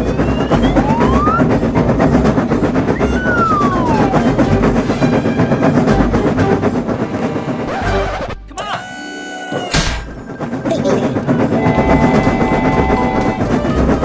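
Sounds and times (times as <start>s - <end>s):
train wheels clickety-clack: 0.0s - 14.0s.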